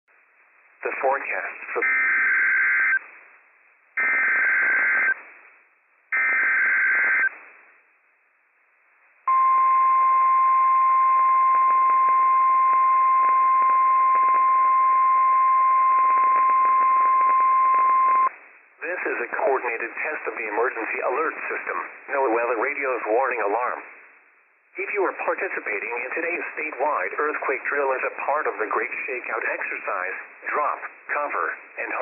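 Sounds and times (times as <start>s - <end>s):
receiver hiss: 0.2s - 32.0s.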